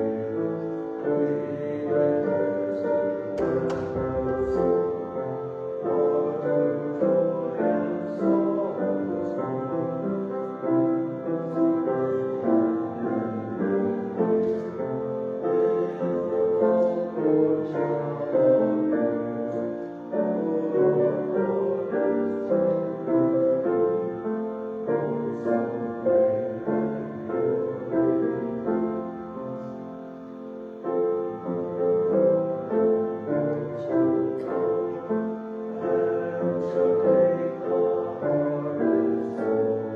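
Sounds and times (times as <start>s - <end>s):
piano music: 0.0s - 39.9s.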